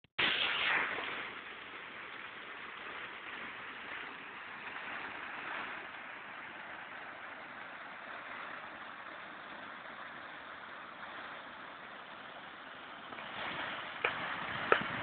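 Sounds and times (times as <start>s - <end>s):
flowing river water: 0.2s - 15.0s.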